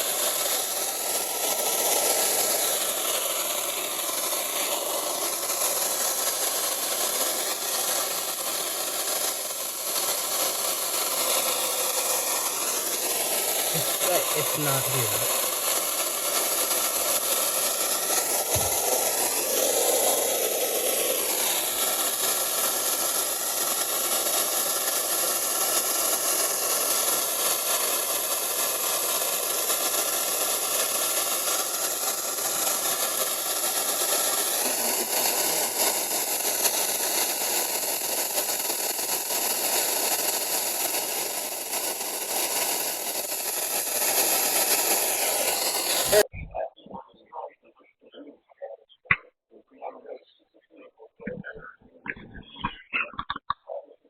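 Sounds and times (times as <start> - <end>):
radio static hiss: 0.0 - 26.0, 31.8 - 54.0.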